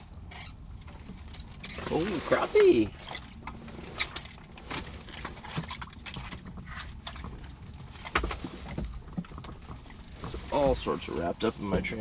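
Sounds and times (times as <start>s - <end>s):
fishing gear clicking and knocking: 0.0s - 12.0s.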